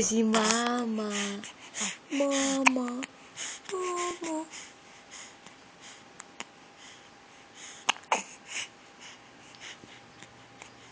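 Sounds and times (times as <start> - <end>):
soft breaths: 1.0 - 10.9.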